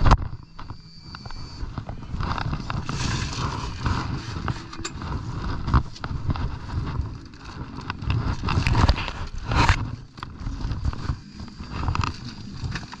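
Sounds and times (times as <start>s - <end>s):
clothing brushing microphone: 0.6s - 13.0s.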